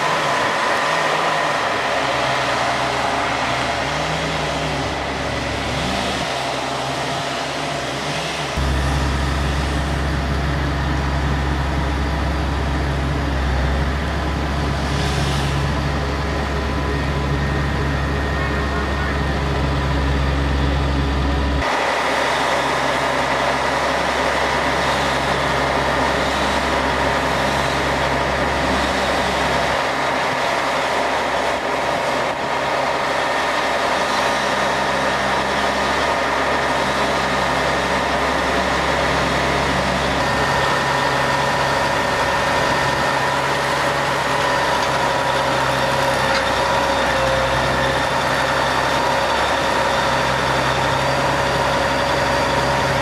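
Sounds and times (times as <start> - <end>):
engine running steadily: 0.0 - 53.0.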